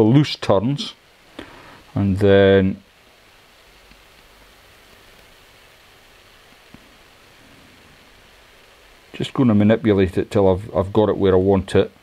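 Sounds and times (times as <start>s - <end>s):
faint room tone hiss: 0.0s - 12.0s.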